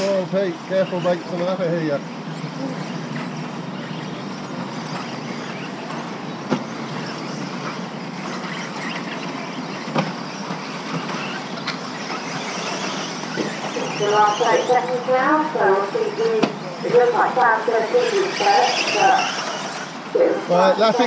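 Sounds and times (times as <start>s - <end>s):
rc car motors and tyres humming: 0.0s - 21.0s.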